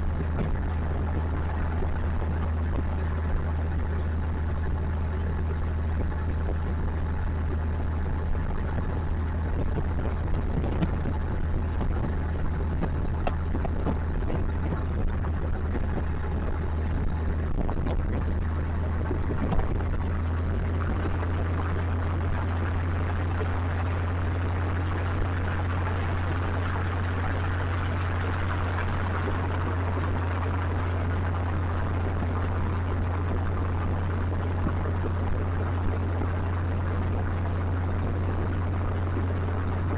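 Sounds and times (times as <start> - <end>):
motorcycle engine droning: 0.0 - 39.9
road and wind noise: 0.0 - 39.9.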